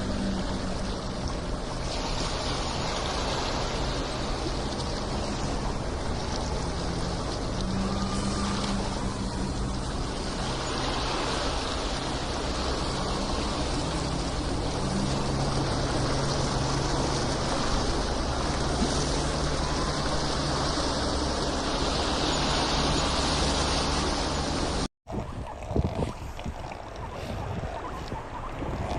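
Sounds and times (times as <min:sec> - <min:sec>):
low steady hum: 0:00.0 - 0:28.9
water rushing: 0:00.0 - 0:28.9.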